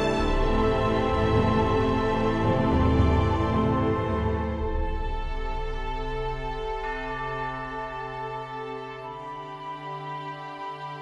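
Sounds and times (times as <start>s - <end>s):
slow music of held chords: 0.0s - 11.0s.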